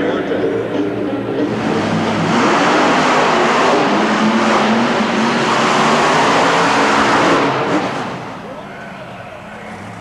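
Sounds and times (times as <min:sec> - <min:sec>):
monster truck engine running: 0:00.4 - 0:10.0.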